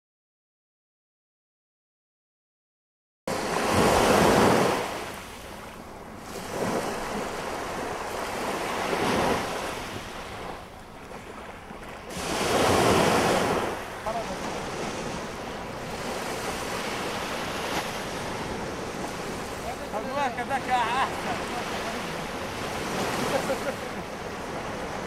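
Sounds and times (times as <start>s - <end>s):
waves washing up shore: 3.3s - 25.0s.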